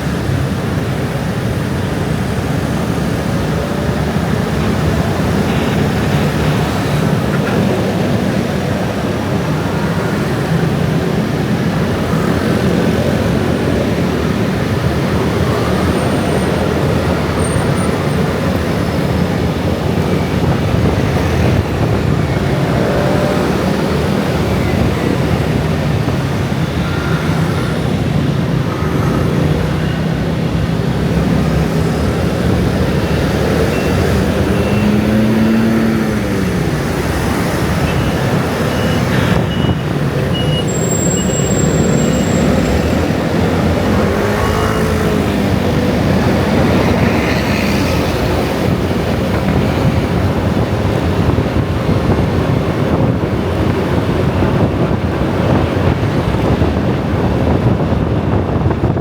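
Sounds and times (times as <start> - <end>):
road traffic: 0.0 - 59.0
vehicles passing close: 0.0 - 59.0.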